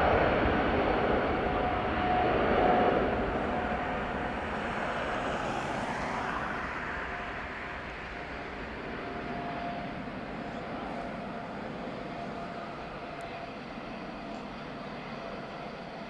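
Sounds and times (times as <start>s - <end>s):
jet engine roar: 0.0s - 16.0s
faint whining tone: 0.4s - 16.0s.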